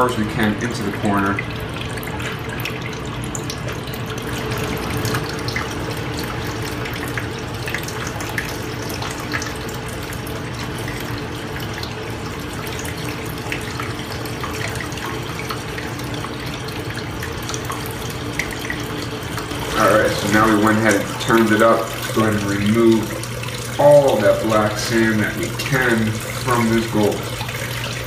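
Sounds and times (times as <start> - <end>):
faint steady hum: 0.0 - 28.0
water swirling and splashing: 0.6 - 28.0.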